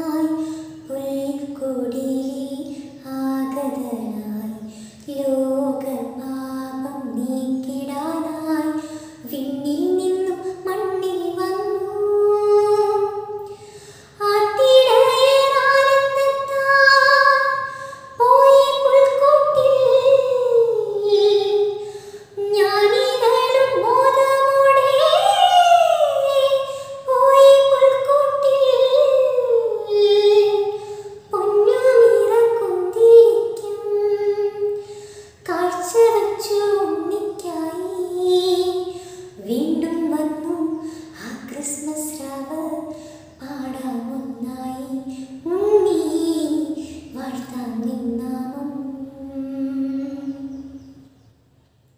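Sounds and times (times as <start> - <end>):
woman singing: 0.0 - 13.5, 14.2 - 50.6.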